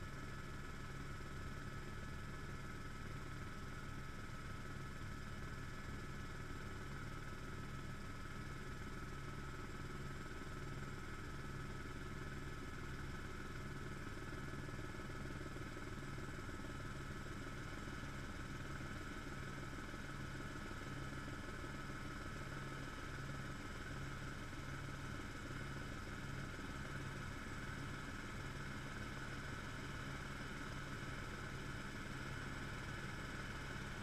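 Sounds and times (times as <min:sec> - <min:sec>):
helicopter rotor and engine drone: 0:00.0 - 0:34.0.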